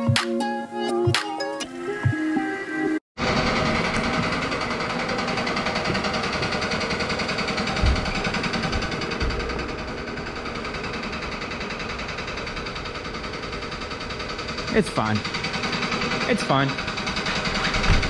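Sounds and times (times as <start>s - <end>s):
machine running with fast pulse: 3.2s - 18.0s.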